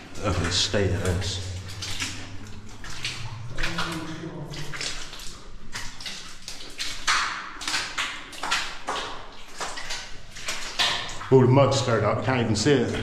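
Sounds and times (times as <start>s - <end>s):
wading splashes in water: 0.0s - 13.0s.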